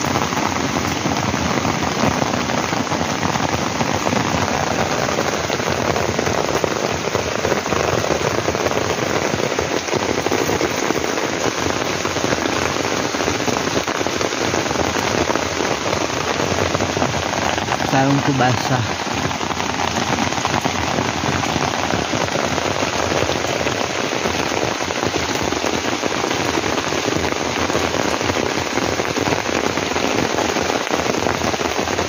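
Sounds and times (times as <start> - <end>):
heavy rain on a tent: 0.0 - 32.0.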